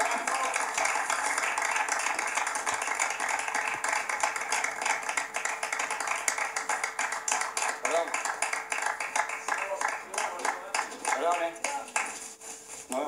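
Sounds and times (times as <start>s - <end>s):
crowd applause: 0.0s - 12.1s.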